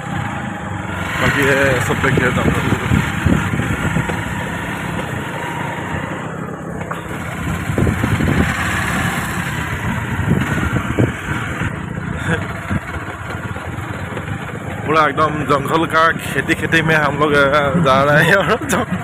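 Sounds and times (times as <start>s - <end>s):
motorcycle engine running: 0.0s - 19.0s
rush of wind: 0.0s - 19.0s.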